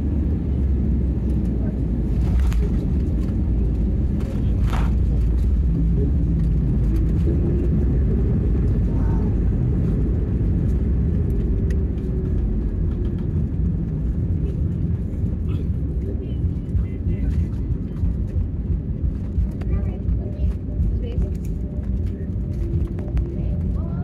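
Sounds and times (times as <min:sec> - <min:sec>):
faint engine hum: 0:00.0 - 0:24.0
jet cabin rumble: 0:00.0 - 0:24.0.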